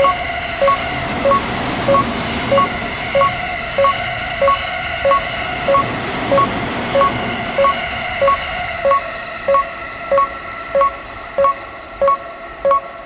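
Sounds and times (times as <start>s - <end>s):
level crossing warning bell: 0.0s - 13.0s
passing train: 0.0s - 13.0s.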